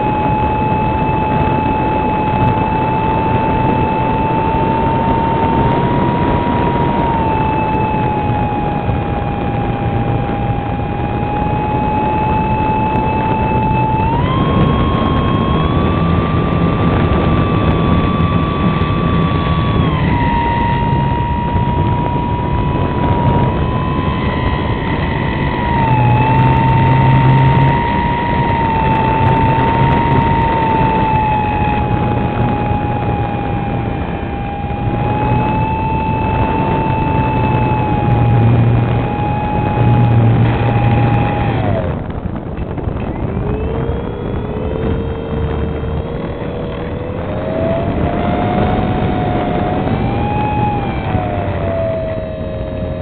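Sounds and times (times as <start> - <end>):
electric motor propeller whine: 0.0 - 53.0
rushing wind noise: 0.0 - 53.0.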